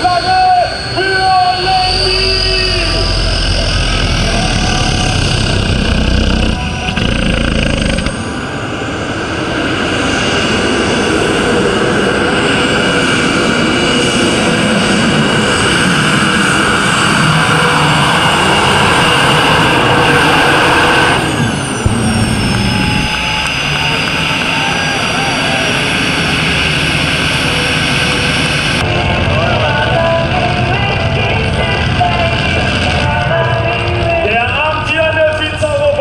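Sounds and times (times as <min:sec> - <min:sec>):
turbine engine whine: 0:00.0 - 0:36.0.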